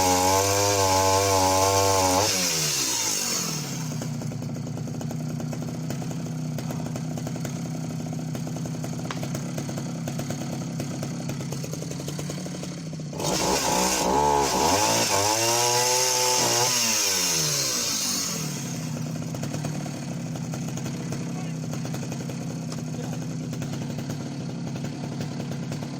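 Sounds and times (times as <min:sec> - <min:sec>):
chainsaw cutting into log: 0:00.0 - 0:25.9
chainsaw idling: 0:00.0 - 0:25.9.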